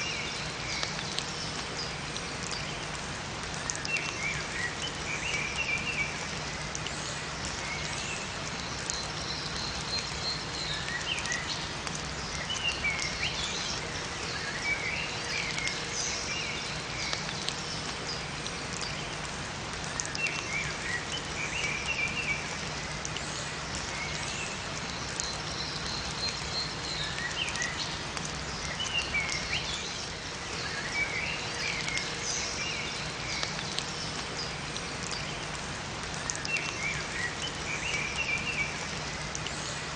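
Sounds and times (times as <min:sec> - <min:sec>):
rain falling in a forest: 0:00.0 - 0:39.9
songbirds chirping: 0:00.0 - 0:39.9.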